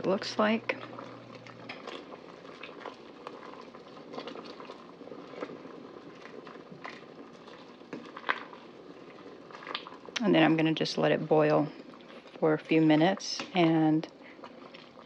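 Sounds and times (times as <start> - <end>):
soup bubbling in a pot: 0.0 - 15.0
wooden spoon stirring: 0.0 - 15.0.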